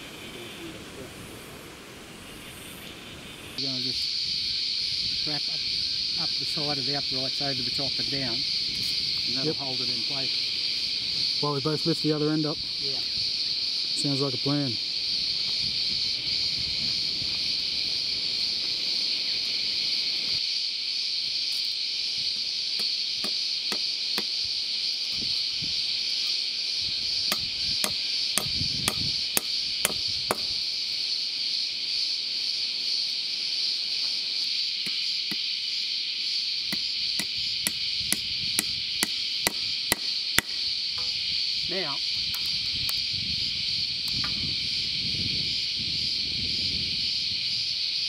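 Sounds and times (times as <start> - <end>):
high drone of insects: 0.0 - 48.0.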